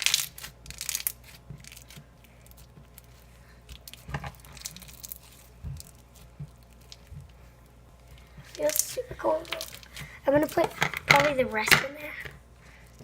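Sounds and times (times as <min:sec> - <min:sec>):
slime with rice crackling: 0:00.0 - 0:10.8.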